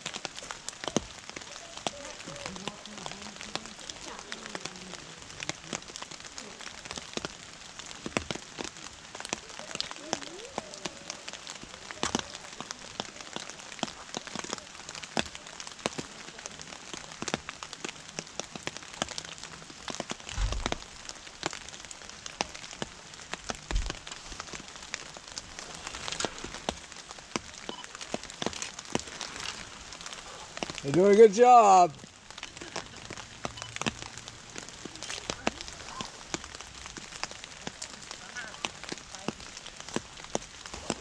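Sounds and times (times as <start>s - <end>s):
rain drops ticking: 0.0s - 41.0s
rain hissing: 0.0s - 41.0s.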